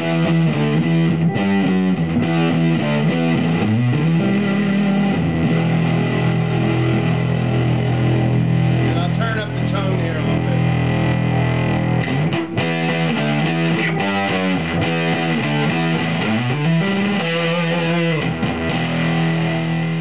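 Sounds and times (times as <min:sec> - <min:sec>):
fuzzed electric guitar: 0:00.0 - 0:20.0.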